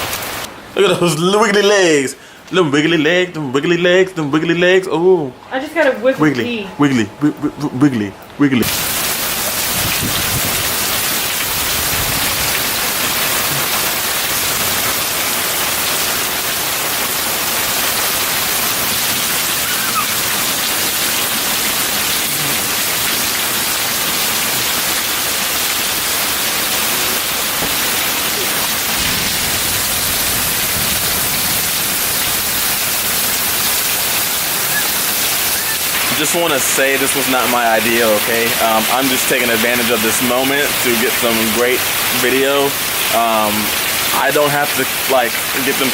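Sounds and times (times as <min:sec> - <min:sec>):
heavy rain pouring: 0:00.0 - 0:04.9, 0:06.7 - 0:45.9.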